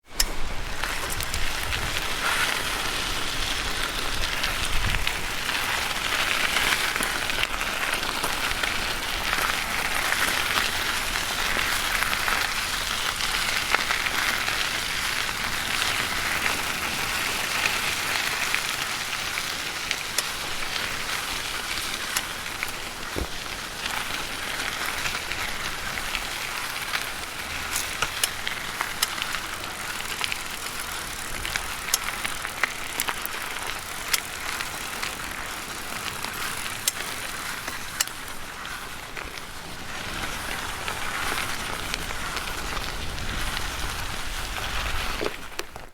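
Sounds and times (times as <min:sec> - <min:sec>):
bicycle tyres crunching on gravel: 0:00.0 - 0:45.9.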